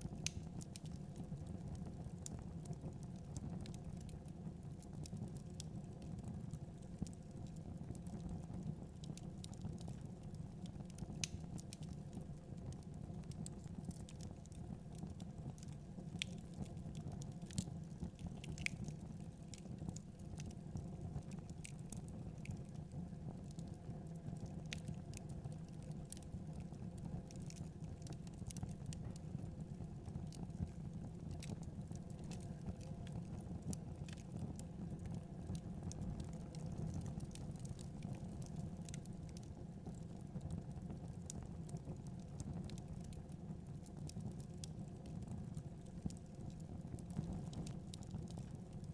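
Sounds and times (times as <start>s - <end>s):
fire pops and snaps: 0.1s - 48.8s
wood fire crackling: 0.1s - 48.9s.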